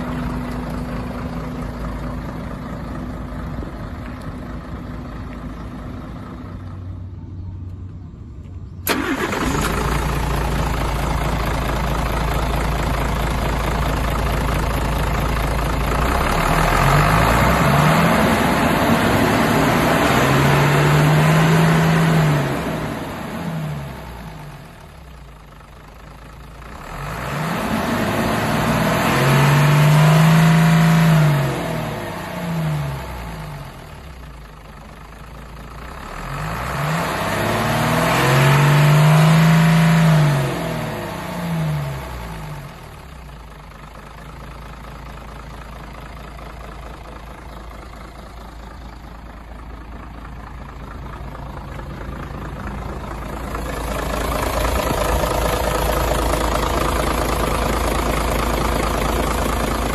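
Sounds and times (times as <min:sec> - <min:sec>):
diesel truck engine revving and idling: 0:00.0 - 0:59.9.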